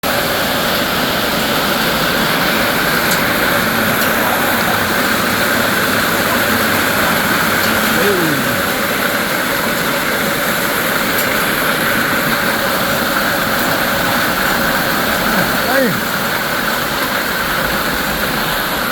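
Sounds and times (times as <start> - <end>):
heavy hail striking: 0.1 - 18.9.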